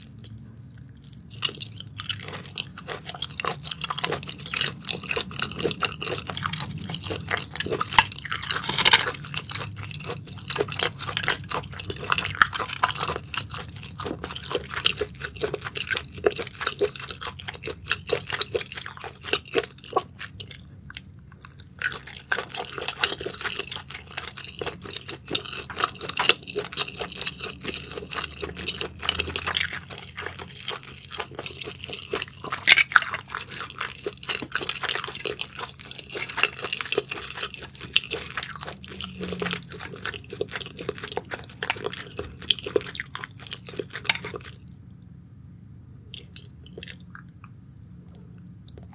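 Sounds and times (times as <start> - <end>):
soft food crunches: 0.0 - 44.8
wet chewing mouth sounds: 0.0 - 44.8, 46.1 - 48.9.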